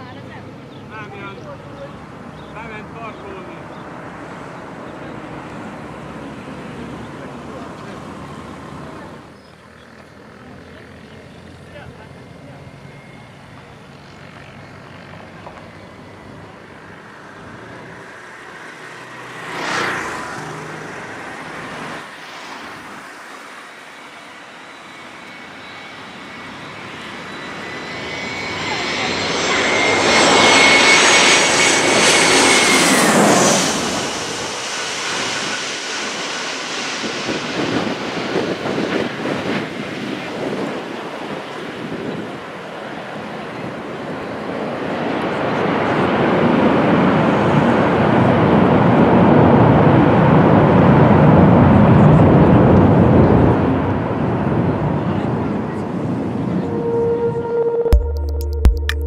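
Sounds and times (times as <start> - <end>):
jet engines whining overhead: 0.0 - 58.0.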